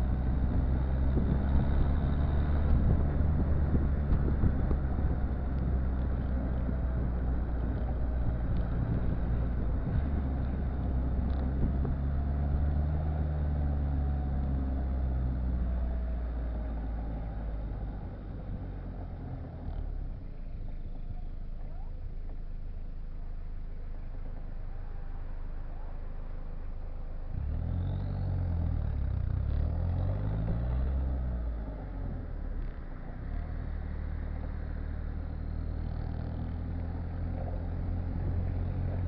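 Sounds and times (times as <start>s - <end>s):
diesel car exhaust rumble: 0.0s - 39.0s.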